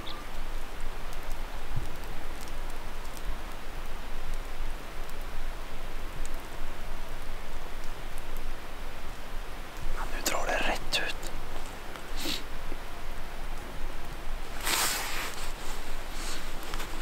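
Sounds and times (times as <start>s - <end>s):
steady rushing forest noise: 0.0s - 17.0s.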